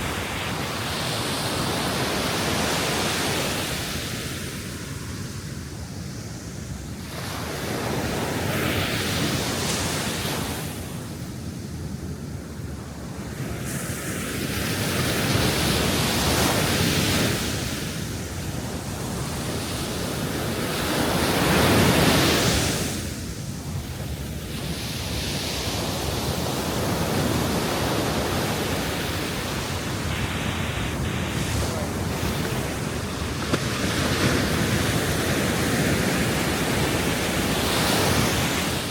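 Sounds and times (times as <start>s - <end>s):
ocean waves breaking: 0.0s - 5.6s, 12.9s - 38.9s.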